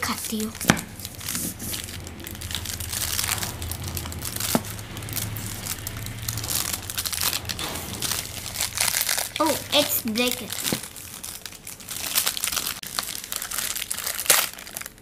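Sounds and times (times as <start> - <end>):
foil wrapper crinkling: 0.0 - 15.0.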